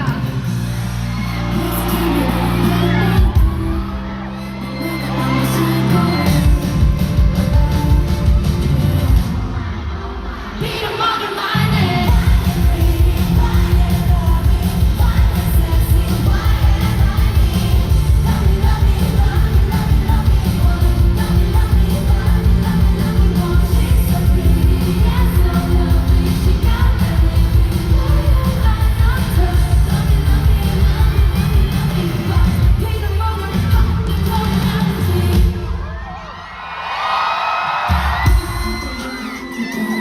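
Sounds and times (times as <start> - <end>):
pop song over sound system: 0.0 - 36.8, 37.5 - 40.0.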